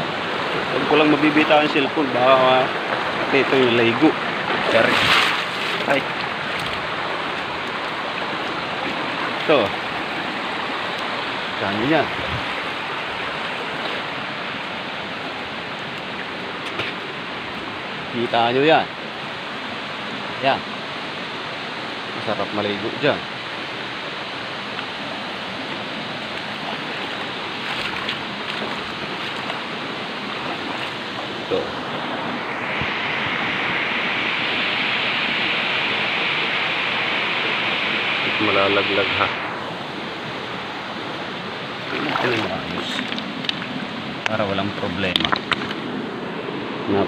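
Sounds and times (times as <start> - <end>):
stream flowing over stones: 0.0 - 47.0.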